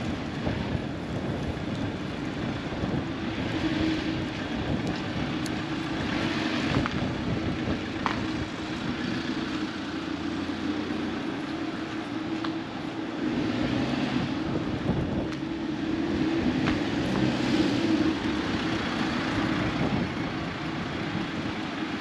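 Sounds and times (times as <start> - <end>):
city traffic hum: 0.0 - 22.0.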